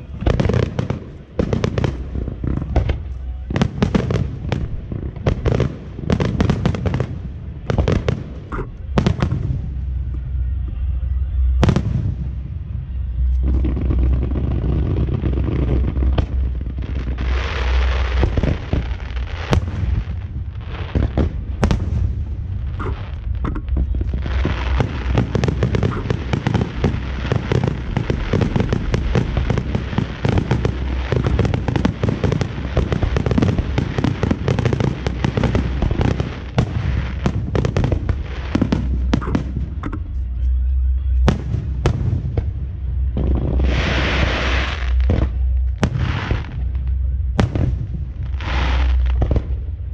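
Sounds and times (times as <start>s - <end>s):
fireworks bangs and crackles: 0.0s - 49.9s
heavy low rumble: 0.0s - 49.9s.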